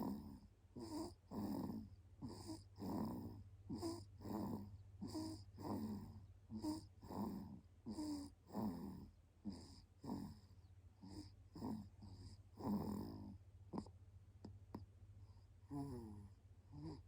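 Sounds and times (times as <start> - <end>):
baby snoring: 0.0 - 14.0, 15.6 - 17.0
faint low hum: 0.0 - 17.0.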